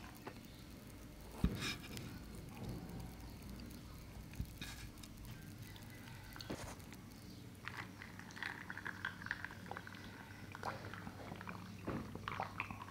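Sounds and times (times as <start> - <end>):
person chewing wetly: 0.0 - 12.9.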